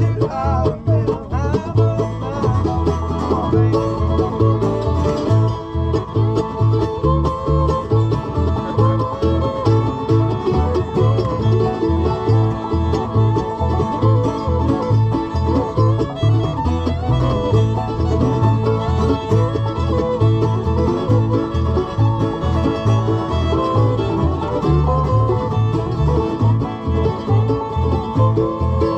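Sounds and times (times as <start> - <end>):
banjo picking: 0.0 - 28.9
bass notes: 0.0 - 28.9
bluegrass string band playing: 0.0 - 28.9
fiddle: 0.0 - 28.9.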